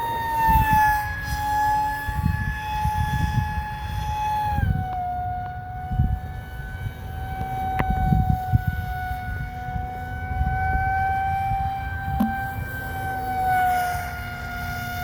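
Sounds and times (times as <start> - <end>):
model jet motor whining: 0.0 - 15.0
wind buffeting microphone: 0.0 - 15.0.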